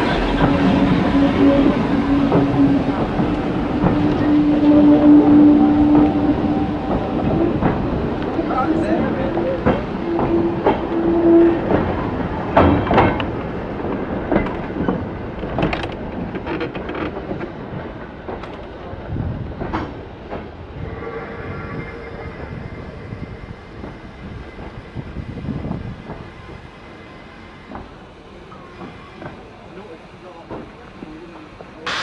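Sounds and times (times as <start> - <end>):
train wheels clicking on rail joints: 0.0 - 32.0.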